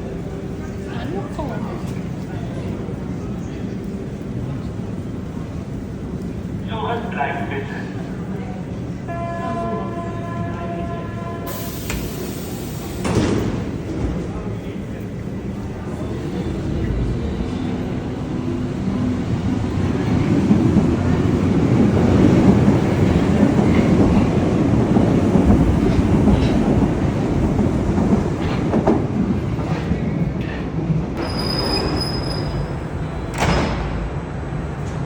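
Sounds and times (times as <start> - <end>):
rail vehicle rumbling on track: 0.0 - 35.0.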